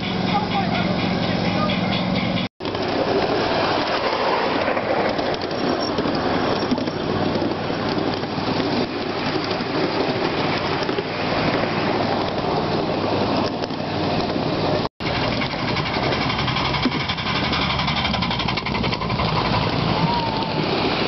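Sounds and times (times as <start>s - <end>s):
miniature train wheels rumbling on rails: 0.0s - 21.0s.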